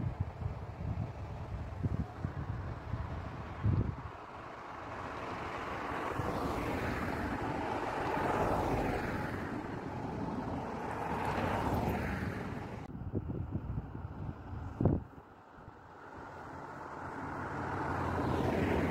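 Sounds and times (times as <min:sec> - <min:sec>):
vehicles passing close by: 0:00.0 - 0:18.9.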